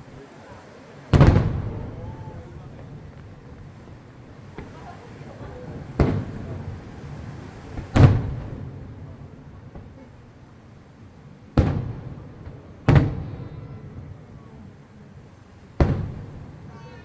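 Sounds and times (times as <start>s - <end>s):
firework shells booming: 0.0s - 17.0s.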